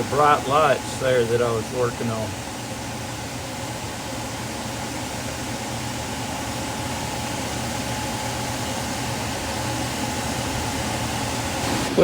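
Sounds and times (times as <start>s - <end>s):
machine humming and hissing: 0.0s - 12.0s.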